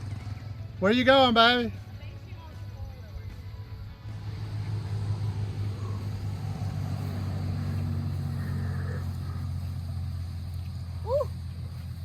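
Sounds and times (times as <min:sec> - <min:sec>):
atv engine droning: 0:00.0 - 0:02.1, 0:03.3 - 0:12.0.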